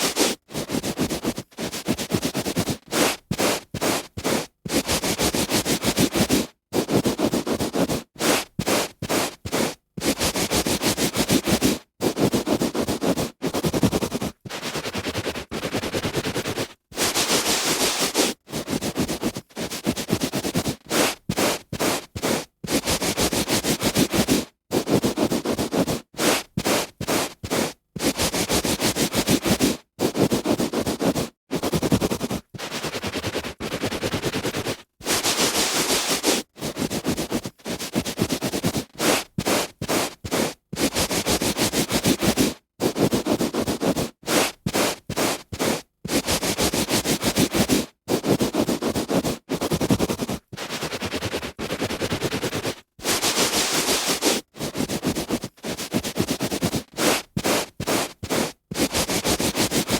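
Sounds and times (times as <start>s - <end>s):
hand rubbing on carpet: 0.0s - 59.9s.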